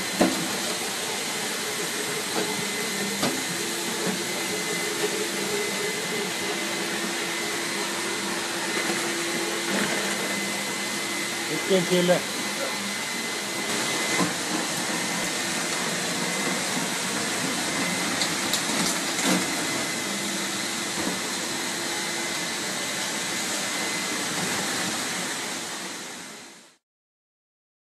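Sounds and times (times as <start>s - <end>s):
floor-cleaning machine humming: 0.0s - 26.7s.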